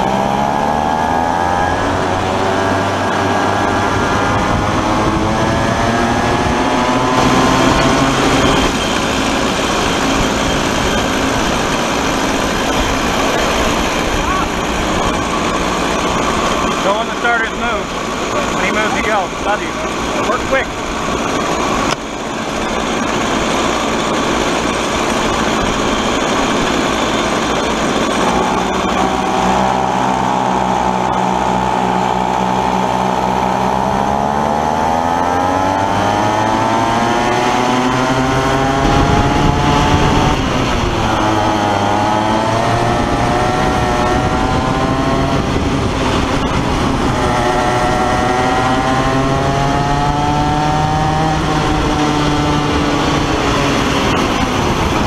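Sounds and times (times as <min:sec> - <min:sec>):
kart engine accelerating: 0:00.0 - 0:55.0.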